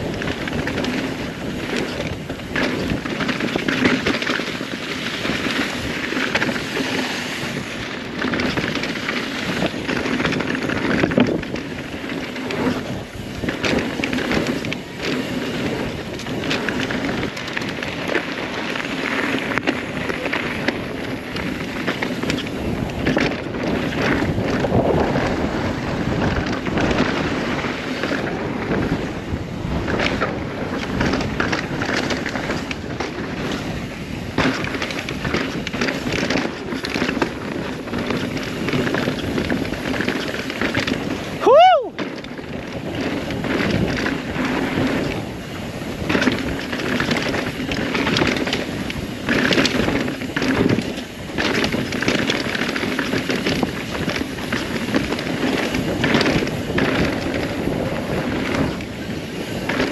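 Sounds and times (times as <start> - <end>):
bike chain and frame rattling: 0.0 - 59.9
bike tyres rolling over dirt: 0.0 - 59.9
wind buffeting microphone: 0.0 - 59.9.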